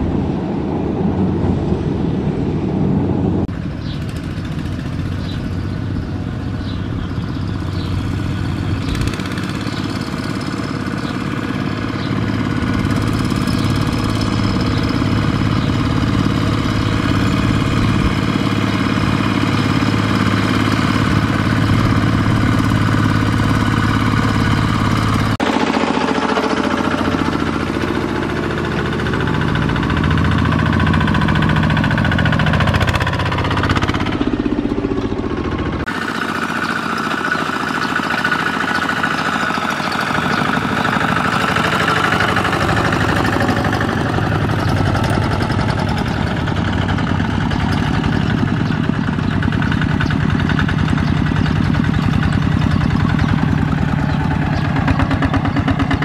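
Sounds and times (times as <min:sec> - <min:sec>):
diesel tractor engines running: 0:00.0 - 0:56.0.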